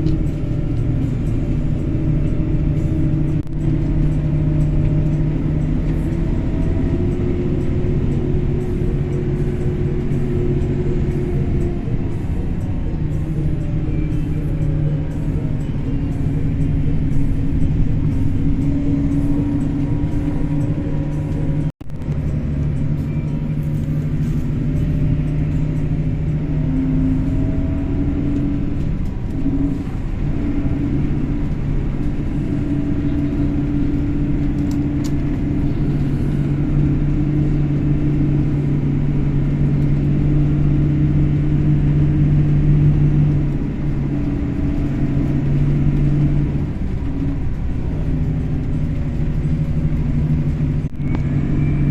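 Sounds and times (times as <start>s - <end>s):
vehicle engine running: 0.0s - 51.9s.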